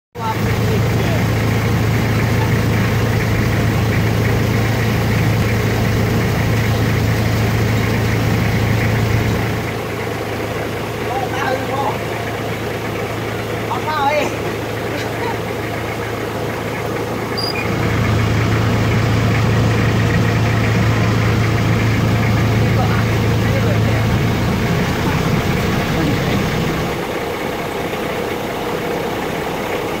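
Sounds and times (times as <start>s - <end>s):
boat engine running steadily: 0.2s - 30.0s.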